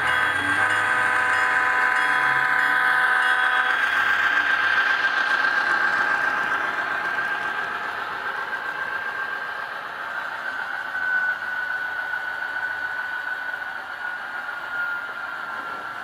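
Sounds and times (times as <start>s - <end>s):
steady whine: 0.0s - 16.0s.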